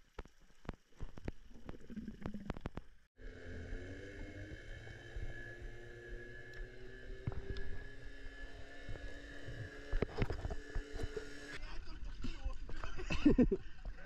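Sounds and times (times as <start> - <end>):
outboard motor humming underwater: 0.0 - 11.6.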